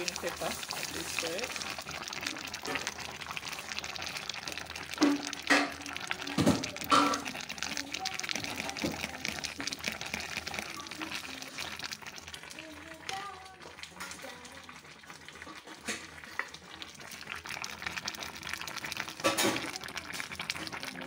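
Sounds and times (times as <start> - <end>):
stew simmering and bubbling: 0.0 - 21.0.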